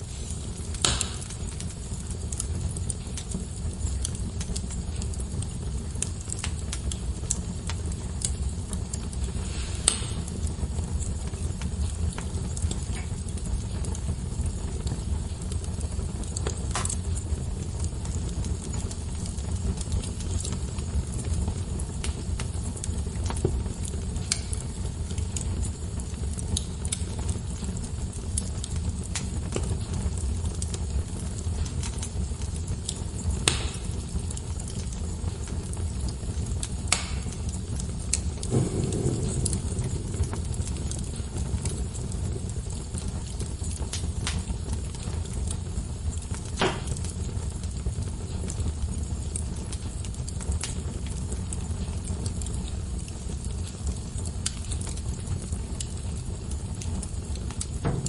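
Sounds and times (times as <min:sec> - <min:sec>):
low rumble of fire: 0:00.0 - 0:58.0
wood fire crackles and pops: 0:00.0 - 0:58.0.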